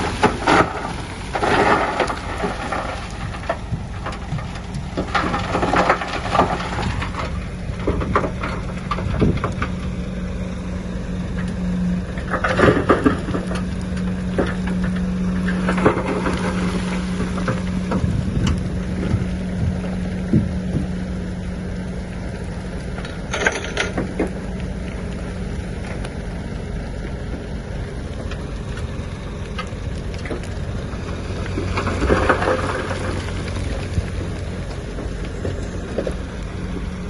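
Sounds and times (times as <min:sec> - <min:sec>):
heavy machinery diesel engine: 0:00.0 - 0:37.0
soil and stones crunching: 0:00.0 - 0:37.0.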